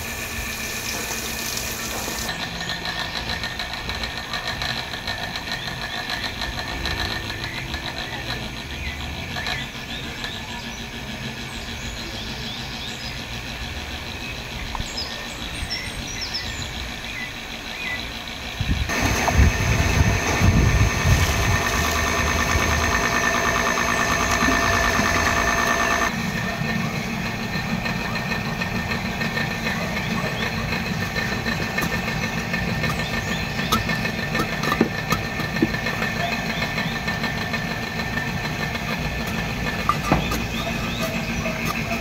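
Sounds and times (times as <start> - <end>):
engine starting and running: 0.0 - 42.0.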